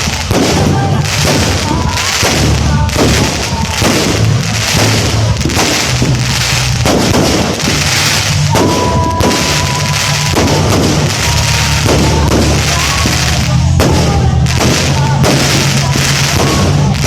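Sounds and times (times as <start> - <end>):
firework whistle: 0.0 - 17.0
fireworks bangs and crackling: 0.0 - 17.0.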